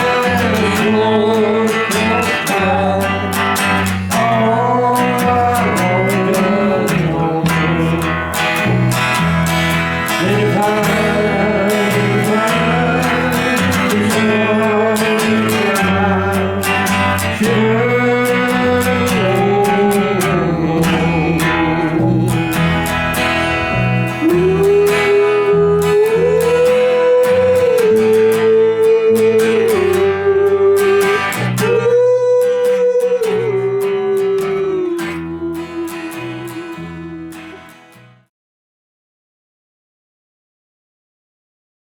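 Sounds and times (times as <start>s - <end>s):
guitar music: 0.0s - 38.3s.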